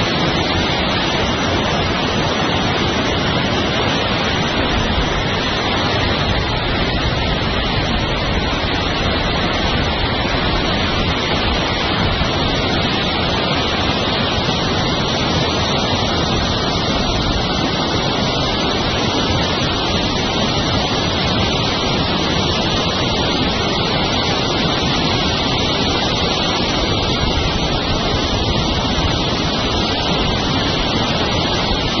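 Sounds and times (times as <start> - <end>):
water rushing over a grate: 0.0 - 32.0.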